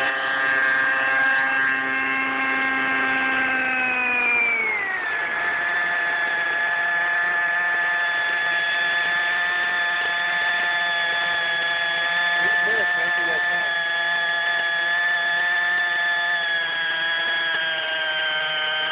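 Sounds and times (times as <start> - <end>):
model helicopter engine and rotor: 0.0 - 18.9.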